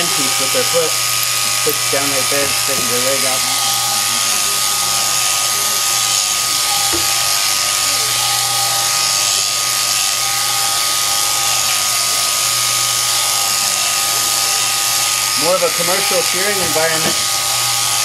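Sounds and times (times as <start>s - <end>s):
shearing handpiece buzzing whine: 0.0s - 18.0s.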